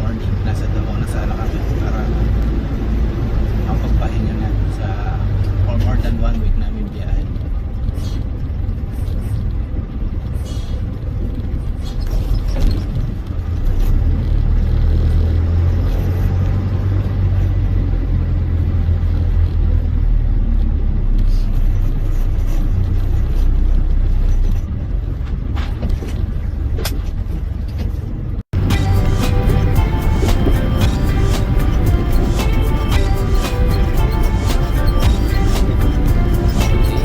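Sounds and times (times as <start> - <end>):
truck engine and road noise: 0.0 - 37.0.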